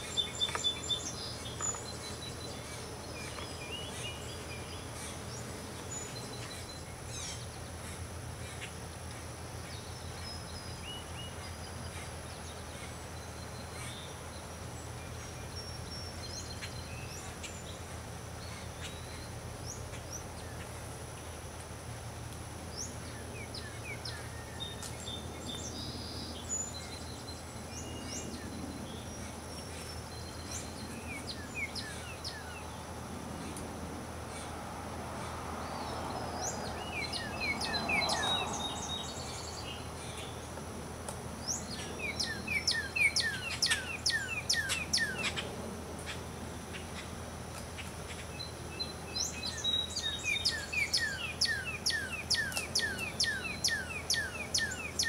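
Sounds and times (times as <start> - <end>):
low outdoor hum: 0.0 - 55.0
songbirds chirping: 0.0 - 55.0.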